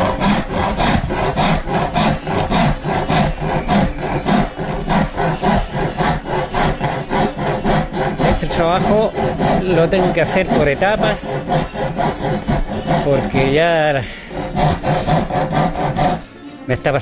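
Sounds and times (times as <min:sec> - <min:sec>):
hand rasp scraping wood: 0:00.0 - 0:16.3.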